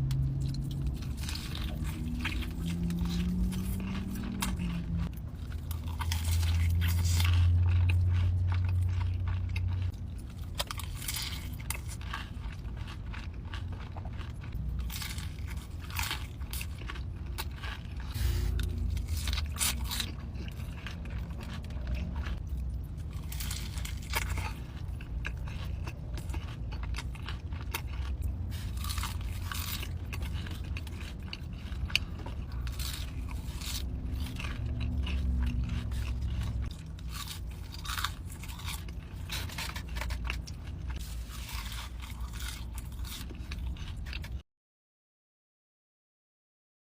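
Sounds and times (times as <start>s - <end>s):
crunchy bites and chewing: 0.0s - 44.4s.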